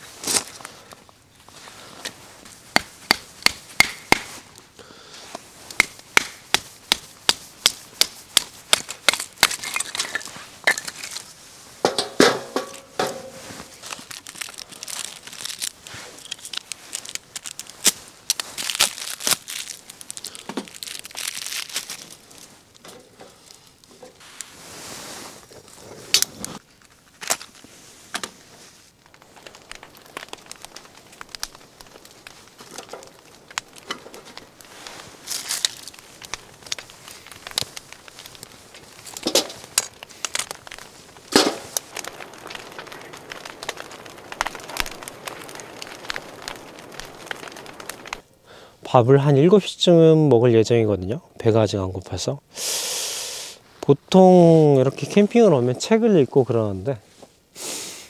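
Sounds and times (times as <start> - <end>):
crinkling and crunching handling: 0.0 - 52.4, 53.6 - 57.5
crackles and rustling: 0.0 - 52.6, 53.4 - 57.5.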